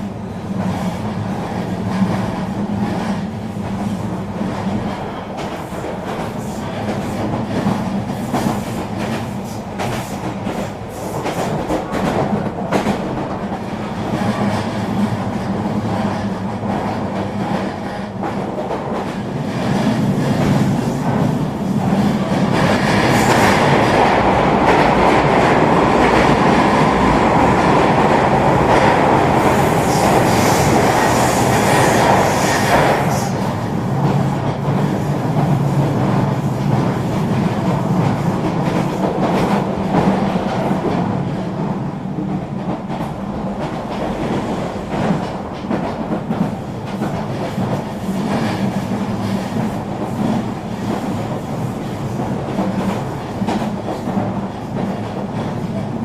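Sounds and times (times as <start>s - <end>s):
train rolling on rails: 0.0s - 56.0s.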